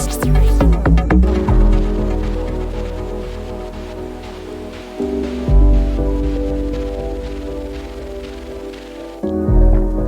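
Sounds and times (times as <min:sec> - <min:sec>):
deep bass: 0:00.0 - 0:08.5
held chords: 0:00.0 - 0:10.0.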